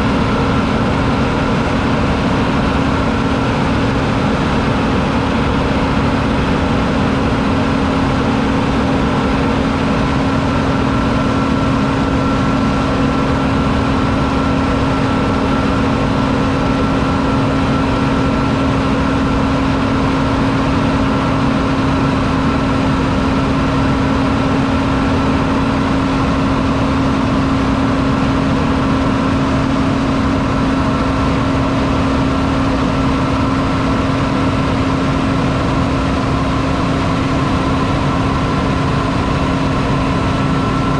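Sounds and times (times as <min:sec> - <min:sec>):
high engine whine: 0:00.0 - 0:40.9.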